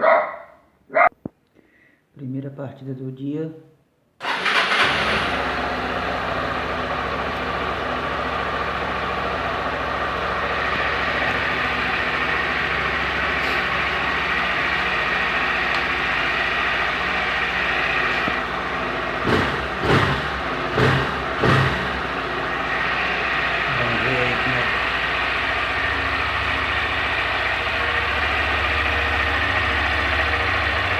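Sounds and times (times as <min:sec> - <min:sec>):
engine revving surges: 0:04.2 - 0:30.9
motorcycle engine idling: 0:04.2 - 0:30.9.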